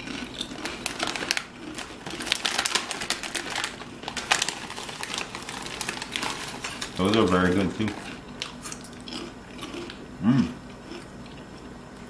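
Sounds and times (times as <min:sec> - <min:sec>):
people chewing crunchy chips: 0:00.0 - 0:12.0.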